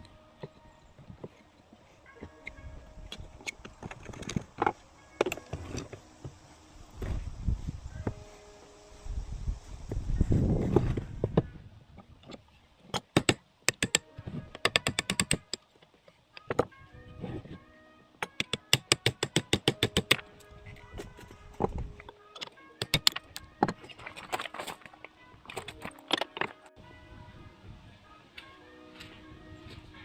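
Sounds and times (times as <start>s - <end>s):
background music: 0.0s - 11.7s, 13.0s - 30.0s.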